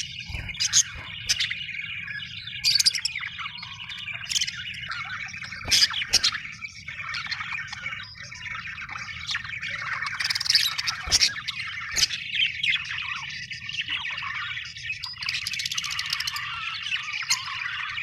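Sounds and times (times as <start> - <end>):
budgerigars chirping and chattering: 0.0 - 18.0
shrill bird squawks: 0.0 - 18.0.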